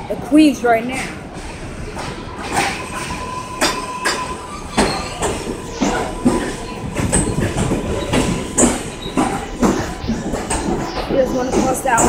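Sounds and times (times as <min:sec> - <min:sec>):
train steady tone: 0:00.0 - 0:12.0
train wheels knocking over rail joints: 0:01.3 - 0:12.0.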